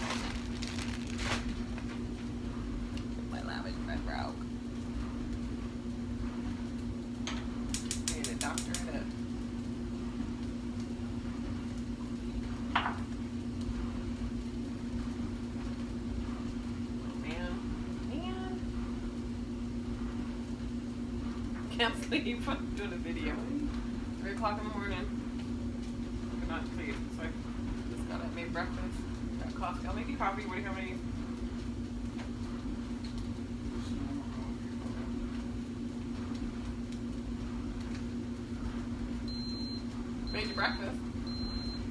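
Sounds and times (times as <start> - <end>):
kitchen appliance humming: 0.0 - 41.9.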